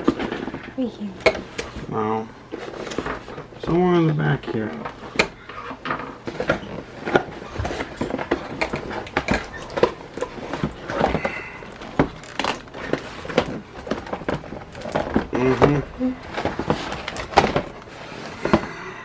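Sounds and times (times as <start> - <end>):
toy packaging being handled: 0.0 - 18.7.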